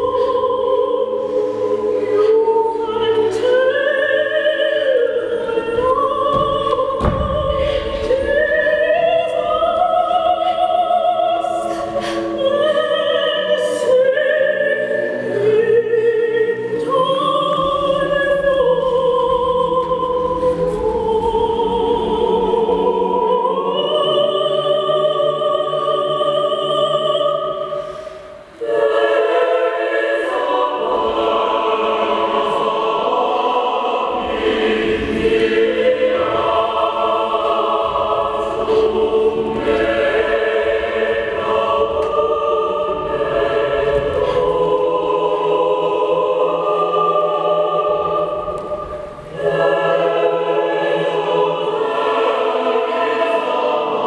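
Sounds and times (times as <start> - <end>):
choir singing held chords: 0.0 - 54.0.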